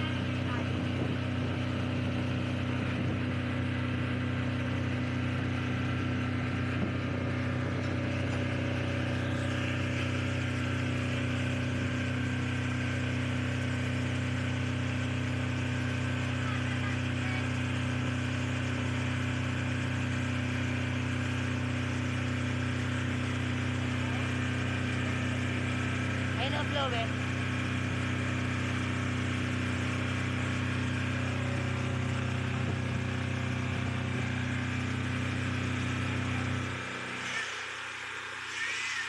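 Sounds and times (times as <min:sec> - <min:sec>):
diesel generator running: 0:00.0 - 0:39.0.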